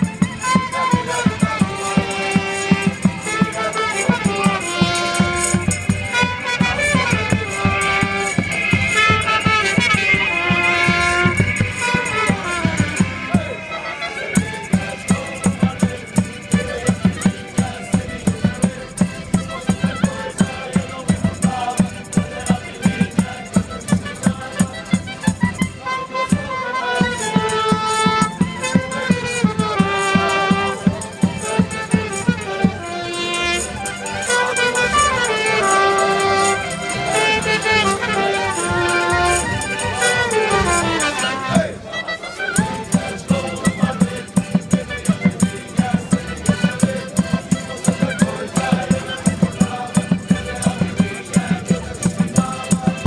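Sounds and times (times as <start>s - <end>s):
acoustic folk instruments strumming: 0.0s - 53.0s
group singing in chorus: 0.0s - 53.0s.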